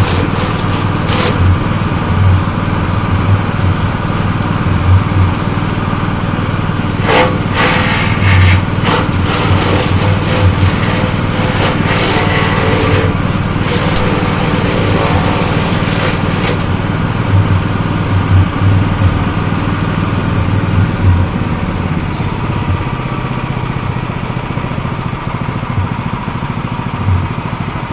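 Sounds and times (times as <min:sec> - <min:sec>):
grass going through cutter: 0:00.0 - 0:24.3
grass chopper engine running: 0:00.0 - 0:27.9.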